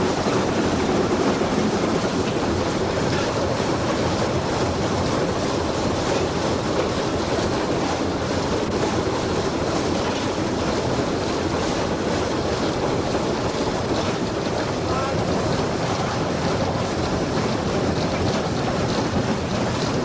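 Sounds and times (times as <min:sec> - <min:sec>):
steam locomotive running: 0:00.0 - 0:20.0.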